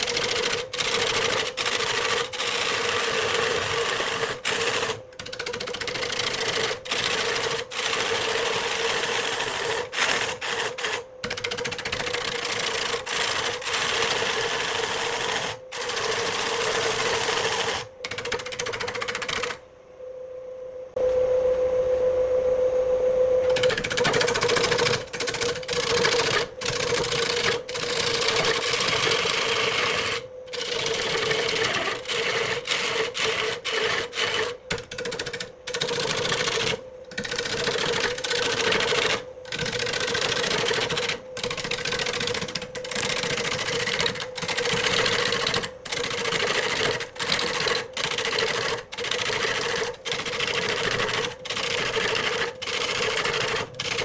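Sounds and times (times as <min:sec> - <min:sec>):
wood lathe humming: 0:00.0 - 0:19.6, 0:23.4 - 0:54.0.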